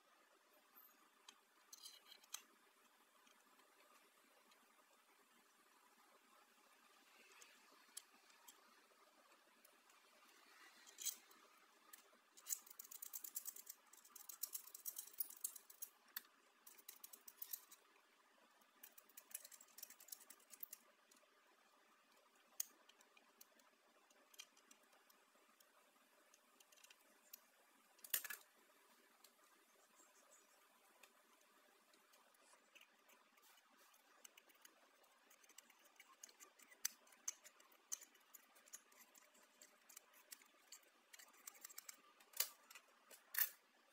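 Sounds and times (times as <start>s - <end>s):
small parts clicking and rustling: 0.2s - 43.9s.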